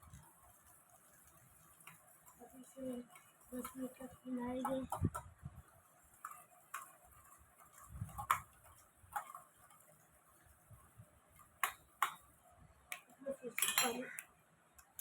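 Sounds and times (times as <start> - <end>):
thick slime being stirred: 0.0 - 14.2.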